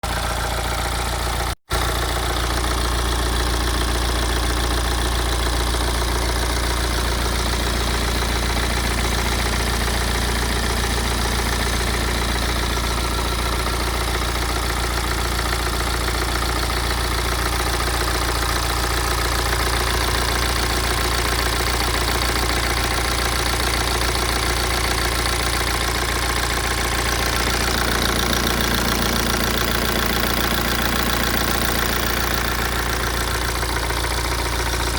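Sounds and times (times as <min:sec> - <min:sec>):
diesel engine idling with rattle: 0:00.0 - 0:34.9.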